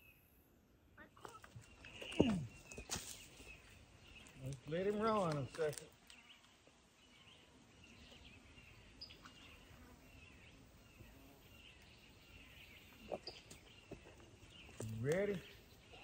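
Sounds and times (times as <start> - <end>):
distant birds chirping: 0.0 - 16.0.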